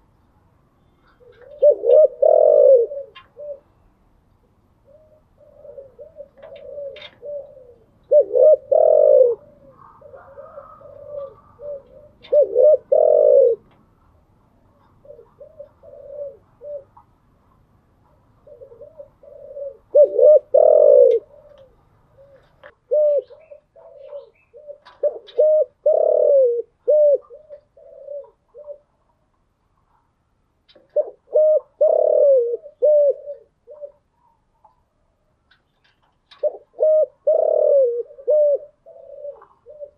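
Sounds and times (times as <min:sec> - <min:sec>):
dove cooing: 0:00.9 - 0:03.9, 0:04.8 - 0:13.8, 0:14.6 - 0:17.1, 0:18.0 - 0:29.0, 0:30.7 - 0:34.9, 0:35.9 - 0:39.9.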